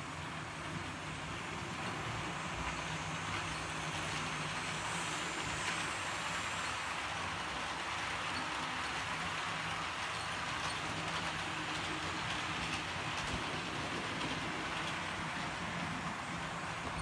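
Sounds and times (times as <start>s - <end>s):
model train rolling on rails: 0.0s - 17.0s.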